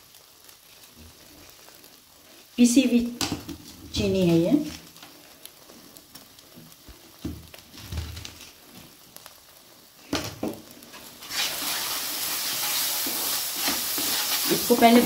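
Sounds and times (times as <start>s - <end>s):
sizzling in a hot pan: 0.0s - 15.0s.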